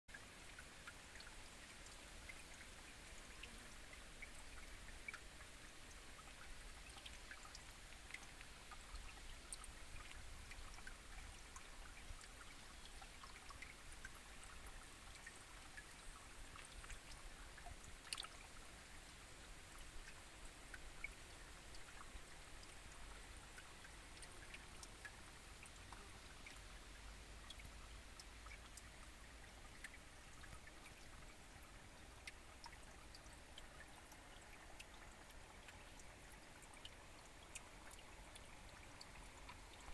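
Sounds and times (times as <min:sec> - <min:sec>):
stream trickling over rocks: 0:00.1 - 0:39.9
water drips and plops: 0:00.1 - 0:39.9.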